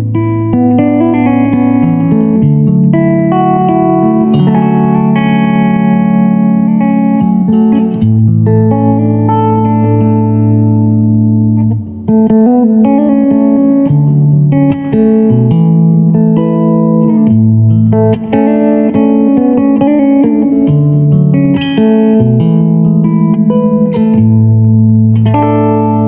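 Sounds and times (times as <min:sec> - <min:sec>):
electric guitar through amplifier: 0:00.0 - 0:26.0.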